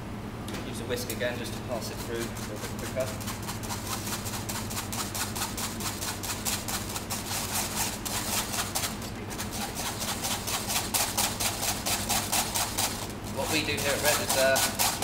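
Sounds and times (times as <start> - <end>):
whisk scraping metal mesh strainer: 1.7 - 15.0.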